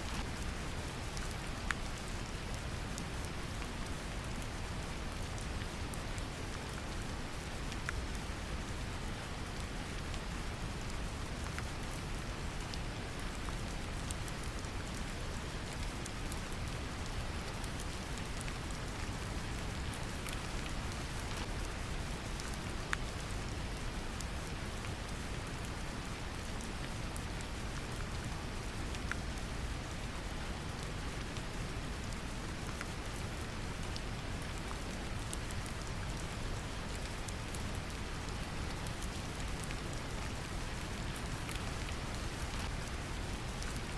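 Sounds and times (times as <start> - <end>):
gentle rain: 0.0 - 43.9.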